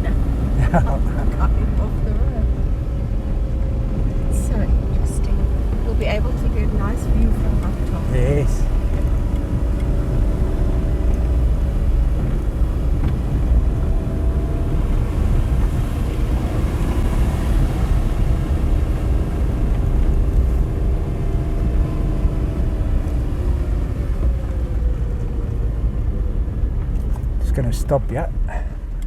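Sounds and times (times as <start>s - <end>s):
car engine pulling uphill: 0.0s - 29.0s
tyres rumbling on wet gravel: 0.0s - 29.0s.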